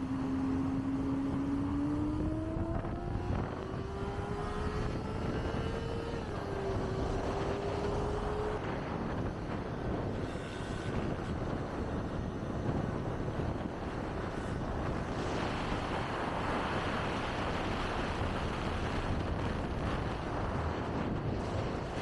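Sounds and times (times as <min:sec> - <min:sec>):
motorcycle road noise: 0:00.0 - 0:22.0
wind rushing over microphone: 0:00.0 - 0:22.0.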